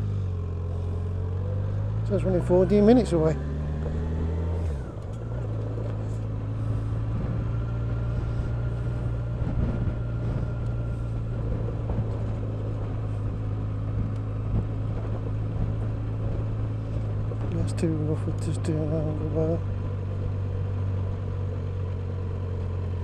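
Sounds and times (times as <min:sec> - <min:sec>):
motorcycle engine droning: 0:00.0 - 0:23.0
road rumble: 0:00.0 - 0:23.0.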